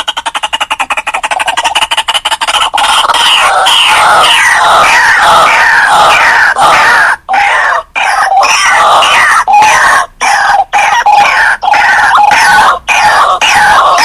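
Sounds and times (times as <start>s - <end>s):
bird harsh croaking calls: 0.0s - 14.0s.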